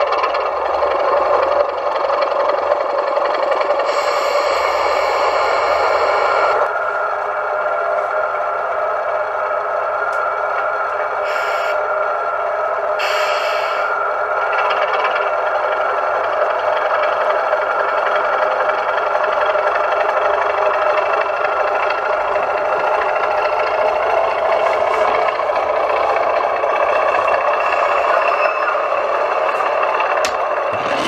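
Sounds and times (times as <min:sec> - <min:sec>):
diesel engine sound from small speaker: 0:00.0 - 0:31.0.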